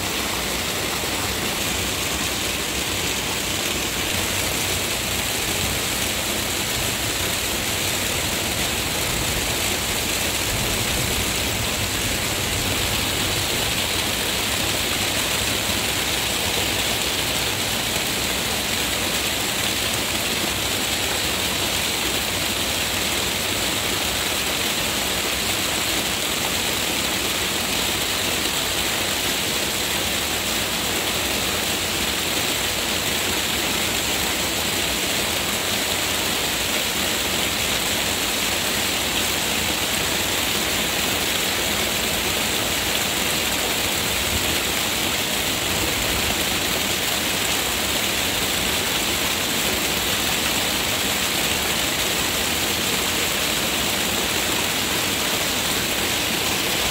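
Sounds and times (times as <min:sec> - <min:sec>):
heavy rain on leaves and ground: 0:00.0 - 0:56.9.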